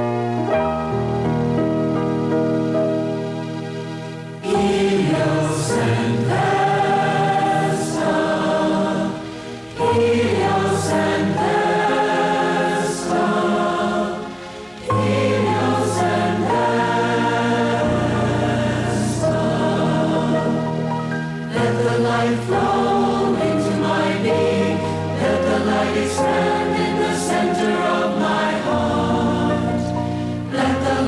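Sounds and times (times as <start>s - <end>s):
keyboard: 0.0s - 31.0s
congregation chanting in unison: 4.4s - 31.0s.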